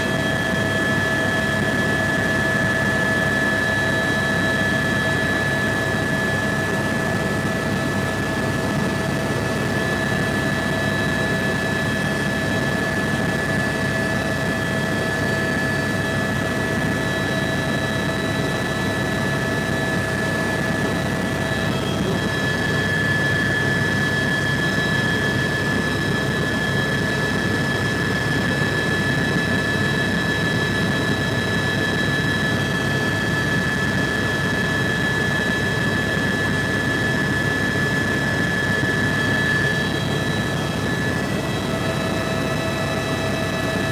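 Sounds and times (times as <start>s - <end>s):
helicopter drivetrain rumble: 0.0s - 43.9s
helicopter engine whine: 0.0s - 43.9s.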